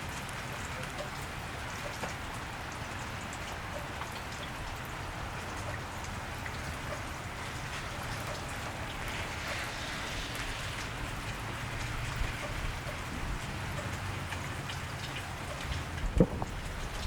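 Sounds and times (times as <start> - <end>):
rain falling on wet street: 0.0 - 17.0
raindrops striking close by: 0.0 - 17.0.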